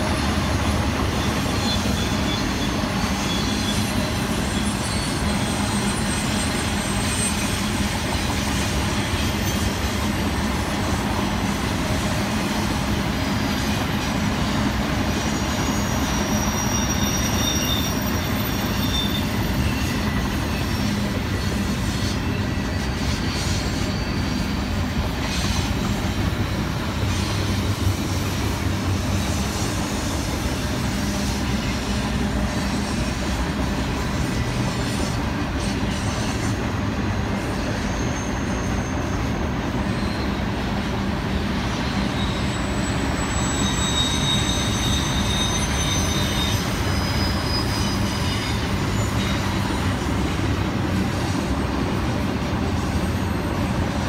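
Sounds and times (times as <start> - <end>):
freight train wheels rumbling: 0.0 - 54.0
high wheel squeals: 0.0 - 54.0.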